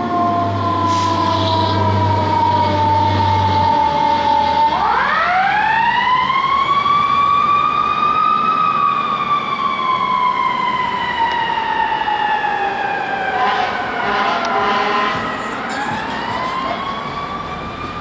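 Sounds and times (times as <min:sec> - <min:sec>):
fire truck siren: 0:00.0 - 0:18.0.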